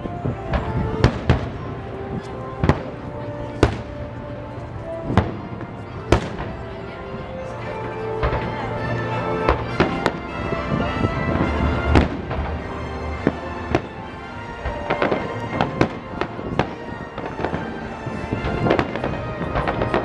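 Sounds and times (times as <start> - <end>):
fireworks bangs and cracks: 0.1 - 4.1, 5.0 - 6.8, 8.2 - 8.7, 9.5 - 20.0.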